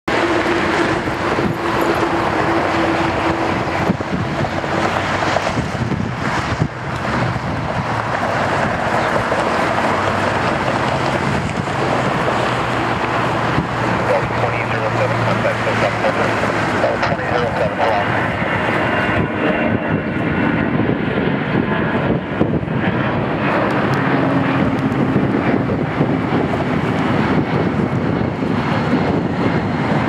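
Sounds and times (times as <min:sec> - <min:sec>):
jet engine roar at takeoff: 0:00.1 - 0:30.0.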